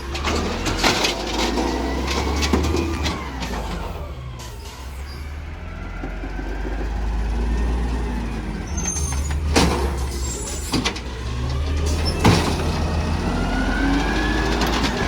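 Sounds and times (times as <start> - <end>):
garbage truck engine running: 0.0 - 15.0.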